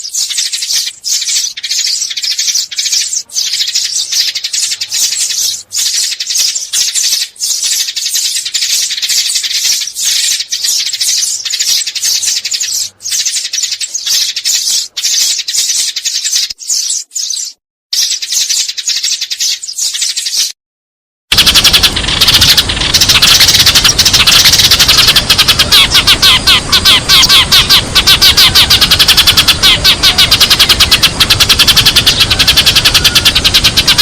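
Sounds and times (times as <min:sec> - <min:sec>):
sparrows twittering: 0:00.0 - 0:20.6, 0:21.3 - 0:34.0.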